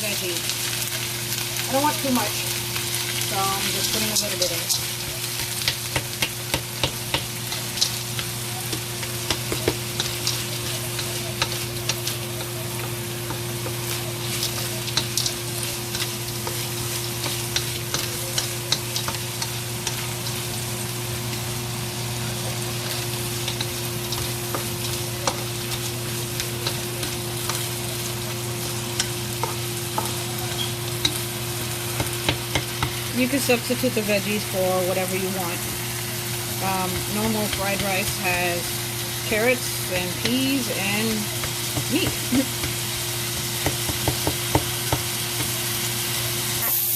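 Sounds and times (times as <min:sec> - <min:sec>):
vegetables sizzling in hot oil: 0:00.0 - 0:46.9.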